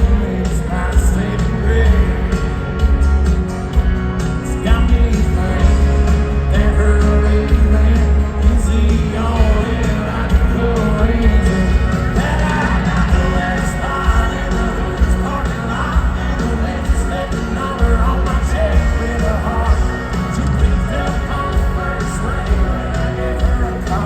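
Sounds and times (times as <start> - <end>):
booming bass: 0.0 - 24.0
live country band playing: 0.0 - 24.0
steady drum beat: 0.0 - 24.0
person singing: 4.5 - 24.0.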